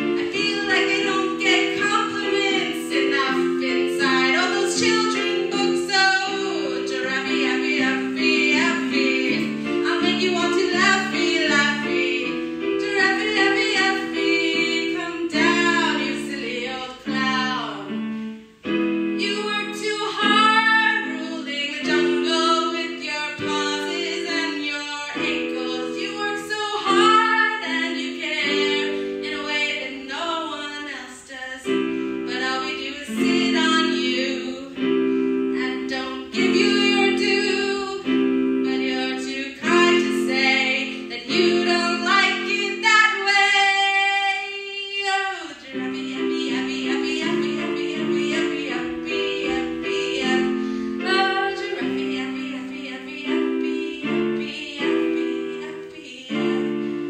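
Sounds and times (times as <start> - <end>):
woman singing: 0.0 - 17.9, 19.2 - 57.0
keyboard chords: 0.0 - 57.0.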